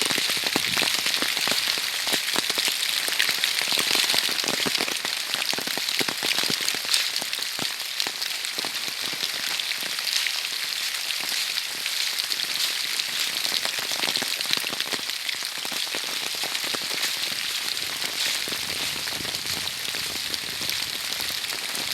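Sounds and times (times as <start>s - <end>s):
heavy rain falling: 0.0s - 21.9s
raindrops ticking: 0.0s - 21.9s.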